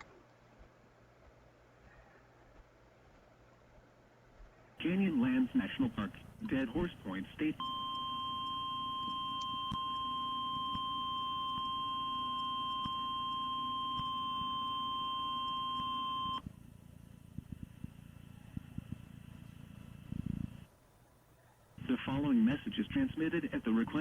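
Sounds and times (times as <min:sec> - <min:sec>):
low hum: 0:00.0 - 0:20.7.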